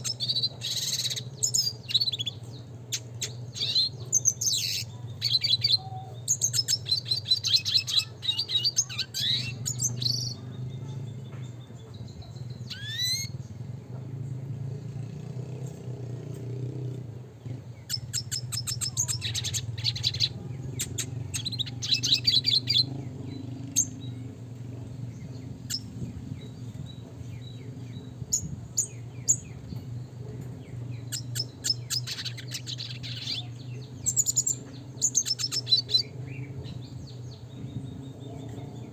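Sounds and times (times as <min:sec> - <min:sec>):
bird twittering trills: 0:00.0 - 0:14.0, 0:16.9 - 0:38.9
steady low hum: 0:00.0 - 0:38.9.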